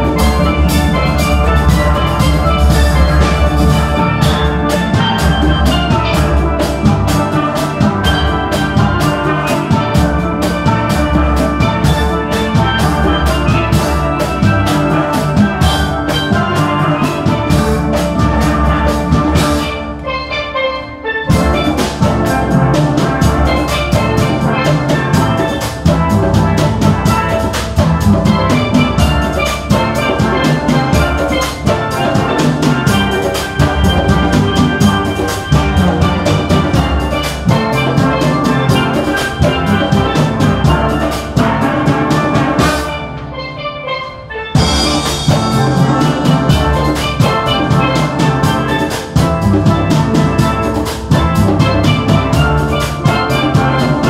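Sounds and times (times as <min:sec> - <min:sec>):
percussion beat: 0:00.0 - 0:54.0
steel pans played with sticks: 0:00.0 - 0:54.0.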